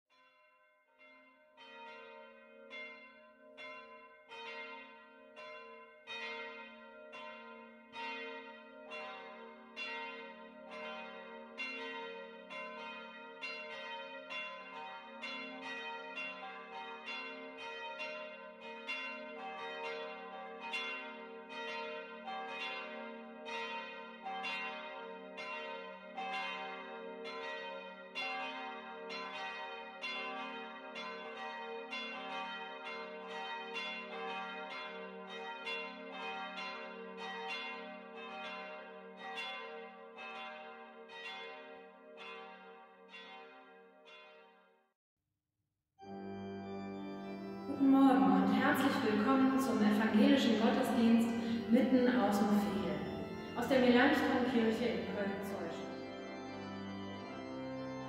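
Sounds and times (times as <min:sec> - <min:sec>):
church bells pealing: 0:00.1 - 0:44.5, 0:46.0 - 0:58.0.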